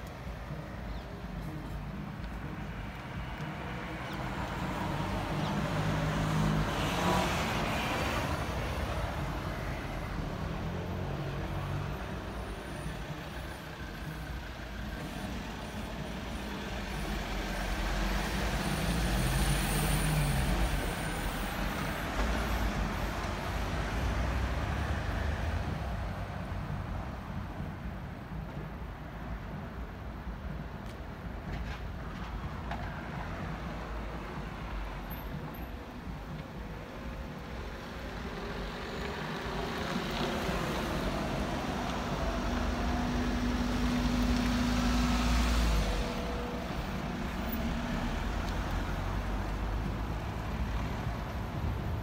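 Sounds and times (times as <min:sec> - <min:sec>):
road vehicles passing: 0:00.0 - 0:52.0.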